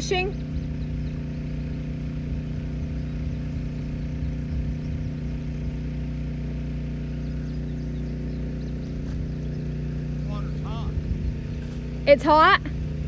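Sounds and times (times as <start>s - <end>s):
small engine running a water pump: 0.0s - 13.0s.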